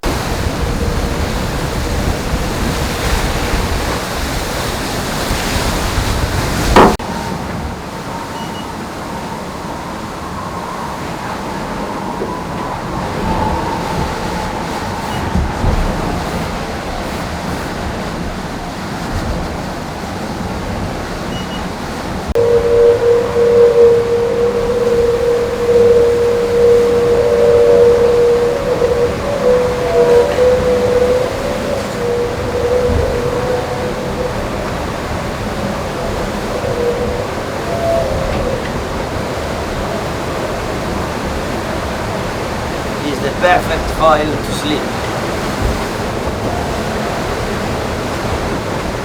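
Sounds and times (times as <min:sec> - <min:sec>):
water and wind rushing: 0:00.0 - 0:49.0.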